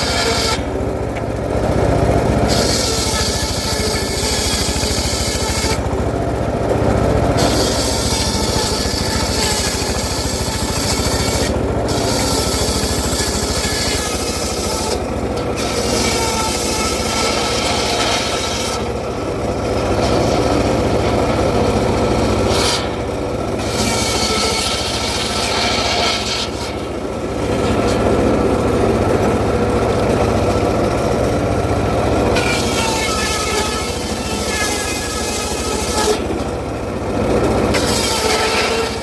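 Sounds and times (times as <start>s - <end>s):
circular saw cutting wood: 0.0s - 39.0s
low machine hum: 0.0s - 39.0s.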